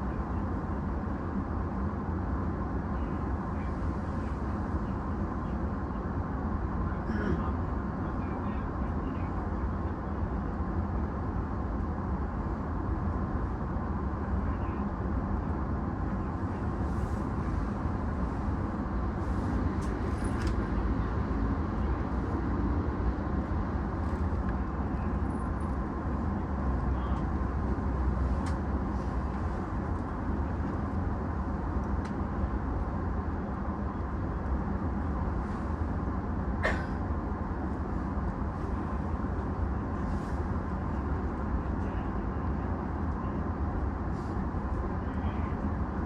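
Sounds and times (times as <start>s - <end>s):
low hum and hiss inside train: 0.0s - 46.0s.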